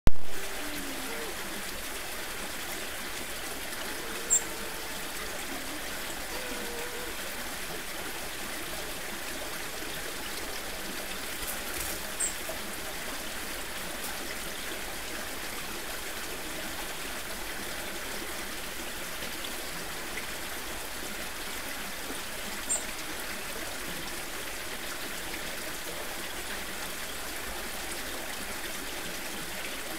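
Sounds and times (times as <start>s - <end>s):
stream flowing over rocks: 0.1s - 29.9s.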